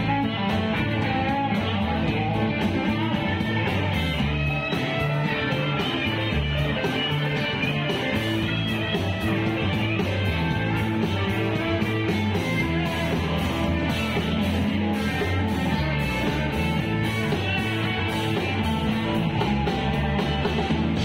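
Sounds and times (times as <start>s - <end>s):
bass guitar: 0.0s - 21.0s
electric guitar: 0.0s - 21.0s
steady drum beat: 0.0s - 21.0s.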